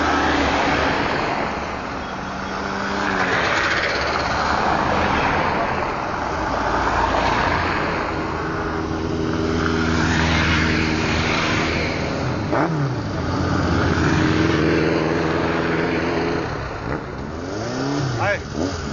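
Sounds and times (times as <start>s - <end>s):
motorcycles riding past: 0.0s - 6.1s, 6.9s - 18.9s.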